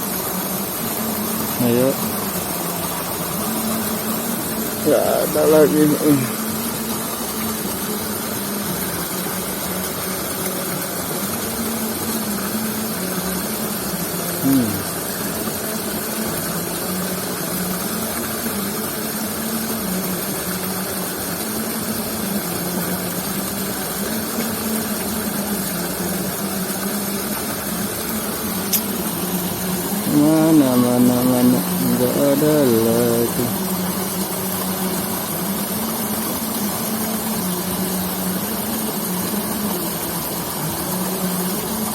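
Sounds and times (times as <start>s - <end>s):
water rushing in a ditch: 0.0s - 41.9s.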